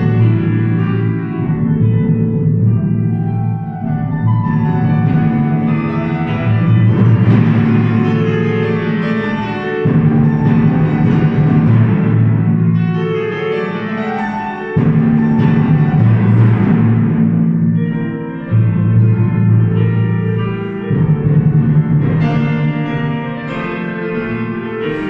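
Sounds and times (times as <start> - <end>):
piano accompaniment: 0.0 - 25.0
timpani low ringing notes: 0.0 - 25.0.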